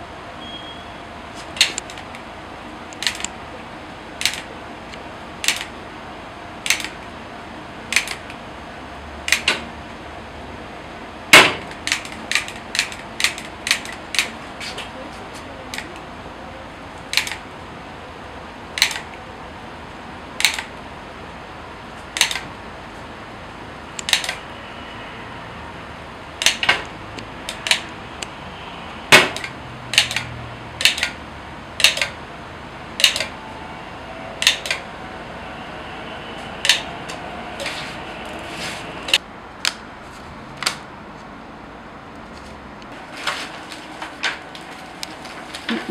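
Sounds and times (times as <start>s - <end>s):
steady background noise: 0.0s - 45.9s.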